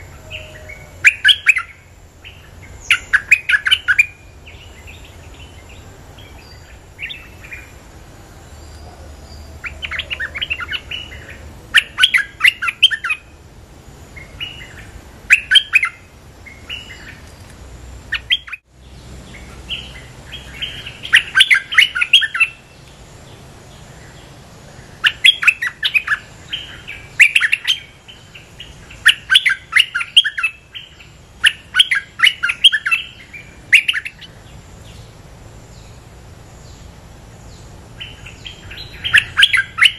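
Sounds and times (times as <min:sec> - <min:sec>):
bird chattering song: 0:00.0 - 0:07.8, 0:08.5 - 0:13.4, 0:14.0 - 0:39.9.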